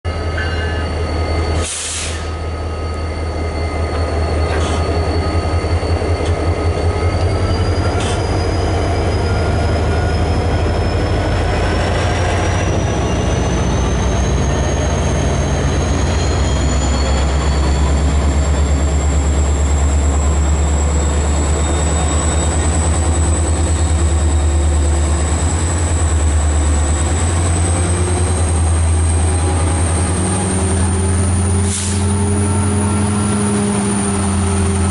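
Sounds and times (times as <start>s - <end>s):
locomotive engine rumble: 0.1s - 34.9s.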